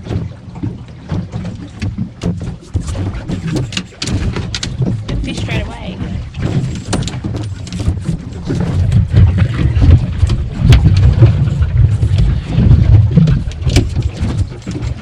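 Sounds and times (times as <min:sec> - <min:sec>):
knocks on boat: 0:00.0 - 0:15.0
wind and sea rumble: 0:00.0 - 0:15.0.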